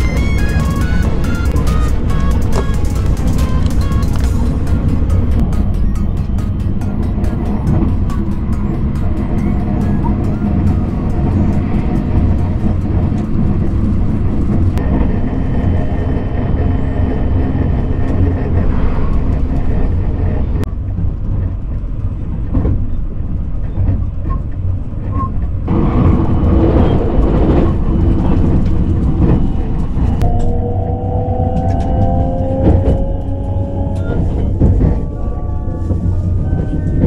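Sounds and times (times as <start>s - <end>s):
train rumble inside carriage: 0.0s - 37.0s.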